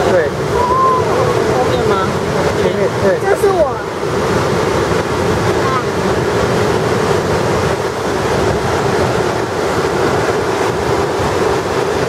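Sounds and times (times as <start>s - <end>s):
water rushing down spillway: 0.0s - 12.0s.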